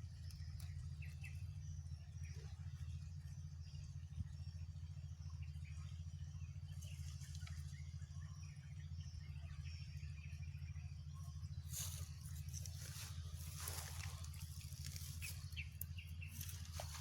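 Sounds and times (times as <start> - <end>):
insects calling: 0.0 - 17.0
small birds chirping: 0.0 - 17.0
steady low hum: 0.0 - 17.0.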